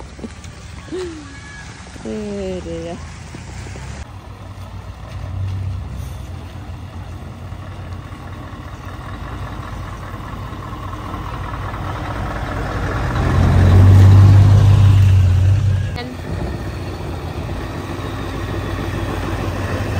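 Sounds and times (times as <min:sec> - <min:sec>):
lorry diesel engine: 0:00.0 - 0:19.9.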